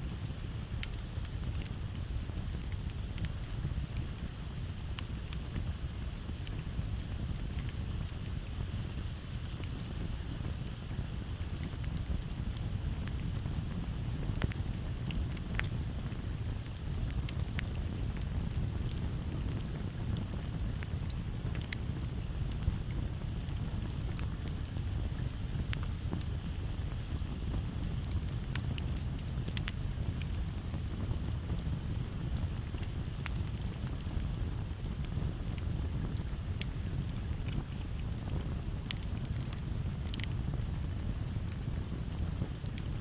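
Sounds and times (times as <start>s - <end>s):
campfire crackling: 0.0s - 43.0s
crickets trilling: 0.0s - 43.0s.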